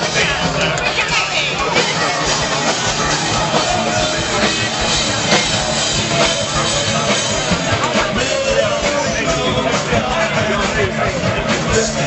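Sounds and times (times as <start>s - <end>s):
rock band playing live: 0.0s - 12.0s
steady drum beat: 0.0s - 12.0s.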